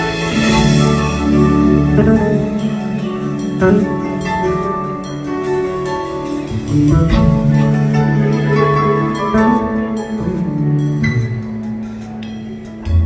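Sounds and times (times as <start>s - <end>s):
electric guitar: 0.0s - 13.0s
soft rock band playing: 0.0s - 13.0s.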